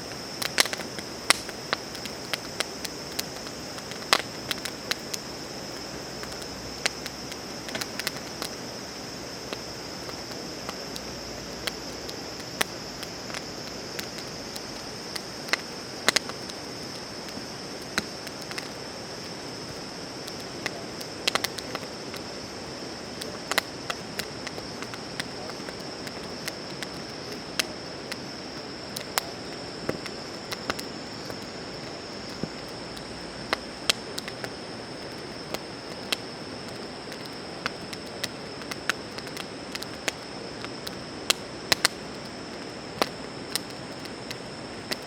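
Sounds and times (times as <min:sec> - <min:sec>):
high-pitched insect chorus: 0:00.0 - 0:45.0
wood fire crackling and popping: 0:00.0 - 0:45.0.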